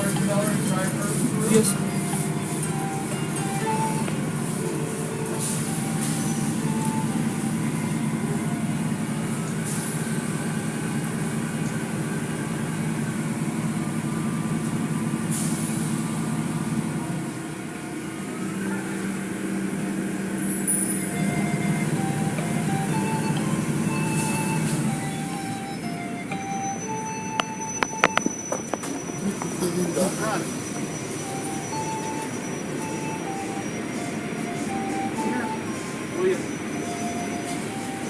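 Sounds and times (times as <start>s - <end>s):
car wash machinery running: 0.0s - 38.0s.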